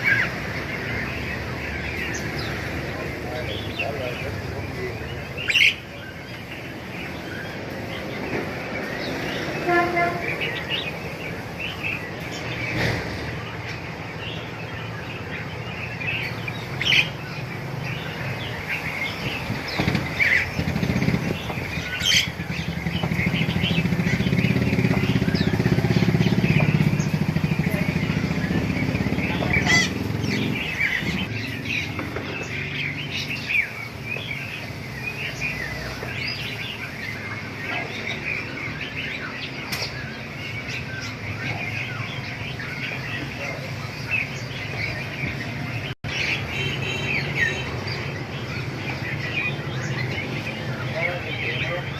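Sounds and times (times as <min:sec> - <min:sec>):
caged birds chirping: 0:00.0 - 0:51.9
engine rumbling past: 0:00.0 - 0:51.9.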